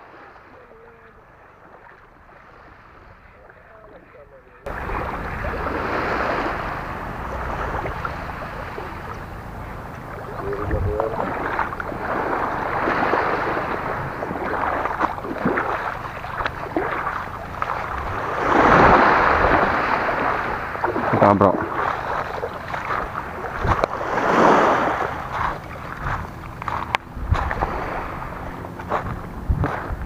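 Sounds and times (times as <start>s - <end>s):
small waves washing over pebbles: 4.6s - 30.0s
wind rumbling on microphone: 4.6s - 30.0s.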